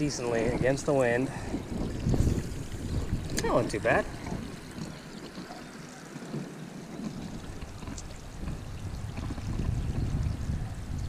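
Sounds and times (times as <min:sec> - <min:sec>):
faint trickle of water: 0:00.0 - 0:11.0
wind buffeting microphone: 0:00.0 - 0:11.0.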